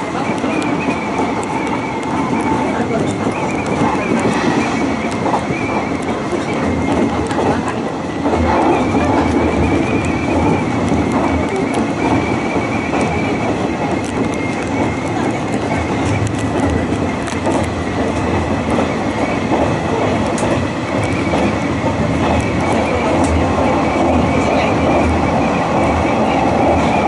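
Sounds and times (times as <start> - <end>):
clicks of train wheels: 0.0 - 27.0
train wheels rumbling on rails: 0.0 - 27.0.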